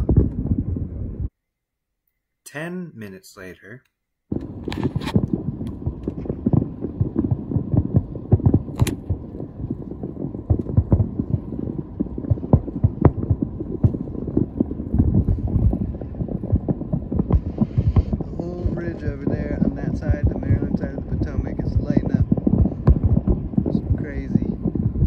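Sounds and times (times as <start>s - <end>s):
distant fireworks booms: 0.0s - 1.3s, 4.3s - 25.0s.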